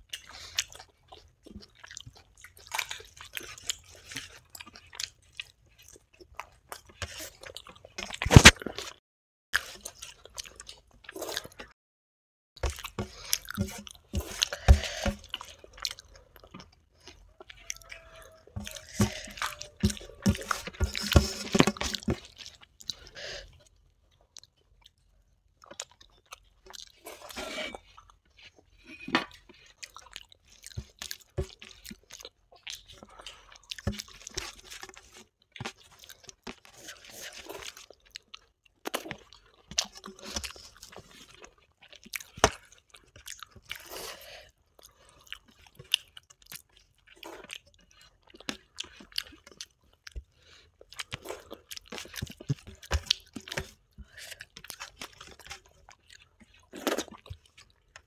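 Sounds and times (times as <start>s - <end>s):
chewing and crunchy bites: 0.0s - 9.0s, 9.6s - 11.8s, 12.6s - 58.0s
wet squish of fingers mixing food: 0.0s - 9.0s, 12.6s - 58.0s.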